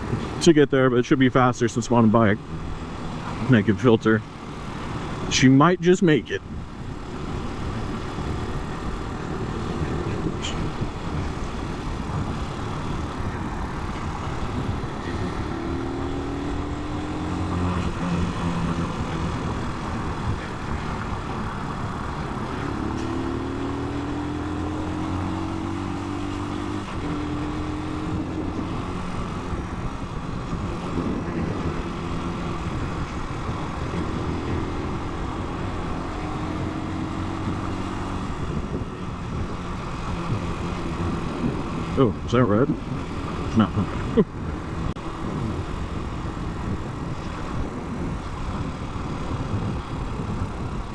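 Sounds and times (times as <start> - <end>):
motorcycle engine revving through gears: 0.0 - 50.9
wind and road noise: 0.0 - 50.9.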